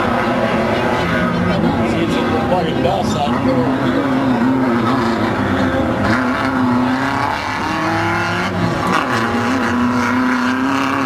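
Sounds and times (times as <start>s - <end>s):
buggy engine running hard: 0.0s - 11.0s.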